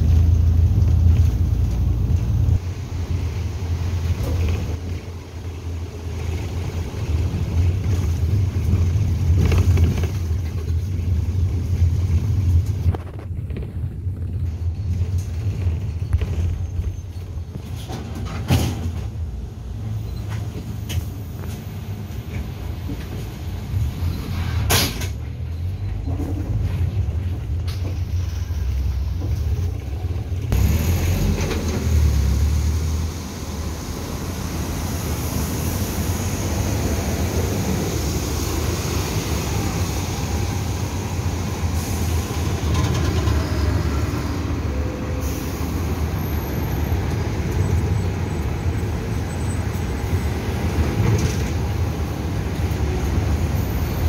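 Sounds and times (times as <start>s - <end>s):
minibus engine and road rumble: 0.0s - 54.0s
street traffic: 0.0s - 54.0s.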